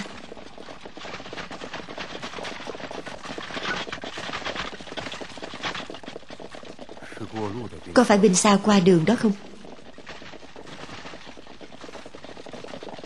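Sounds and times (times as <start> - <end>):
clatter of hooves and wheels: 0.0 - 13.0.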